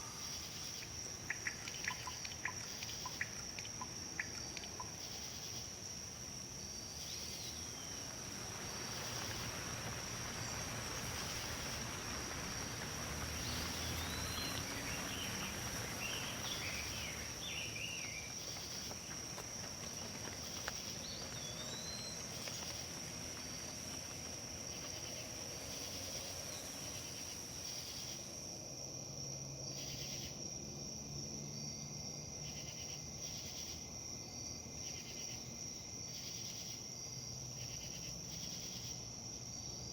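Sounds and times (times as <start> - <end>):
breeze rustling leaves: 0.0 - 39.9.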